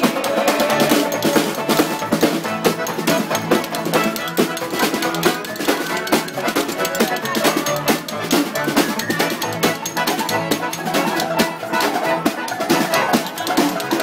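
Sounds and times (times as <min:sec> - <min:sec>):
drum kit steady beat: 0:00.0 - 0:14.0.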